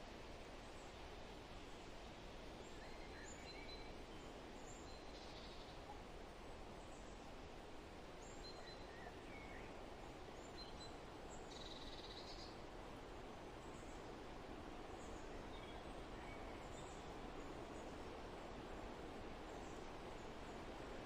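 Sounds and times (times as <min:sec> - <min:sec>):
low background hiss: 0:00.0 - 0:21.0.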